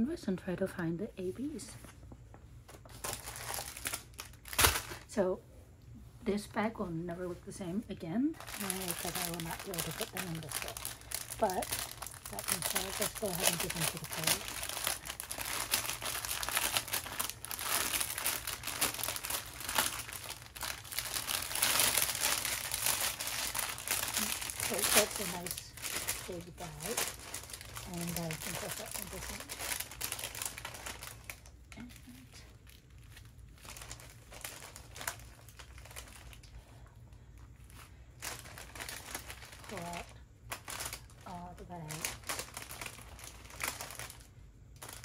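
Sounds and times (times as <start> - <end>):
plastic packaging crinkling: 2.6 - 5.2, 8.4 - 45.0.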